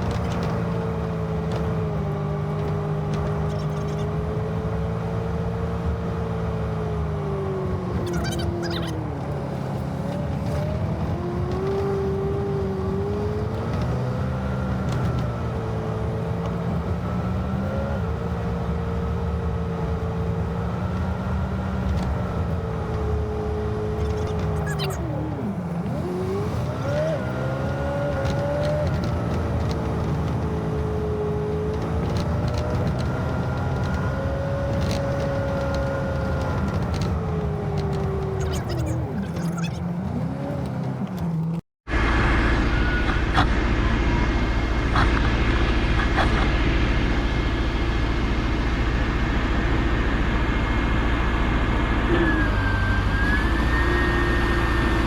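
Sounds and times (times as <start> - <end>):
road noise: 0.0 - 55.0
truck engine: 0.0 - 55.0.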